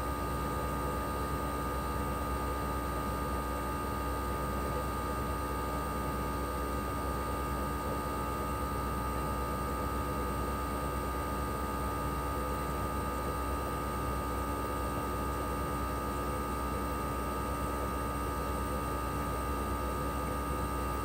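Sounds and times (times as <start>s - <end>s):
air conditioner outdoor unit humming: 0.0s - 21.0s.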